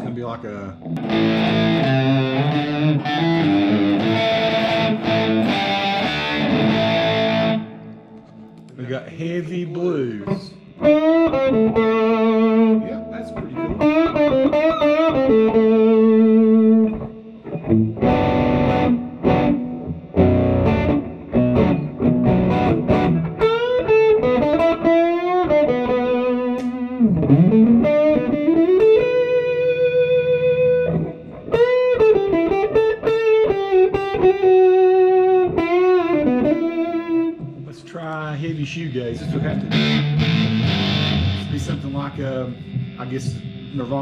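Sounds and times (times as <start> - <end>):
overdriven electric guitar: 0.8 - 8.8, 10.2 - 37.7, 38.9 - 44.0.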